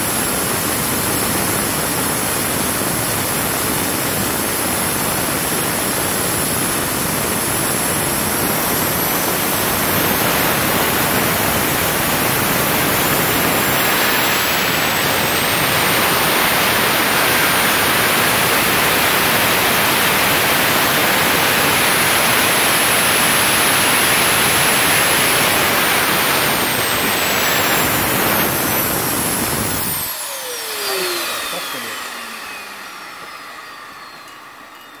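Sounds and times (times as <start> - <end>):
high turbine whine: 0.0 - 35.0
turbofan engine rushing: 0.0 - 35.0.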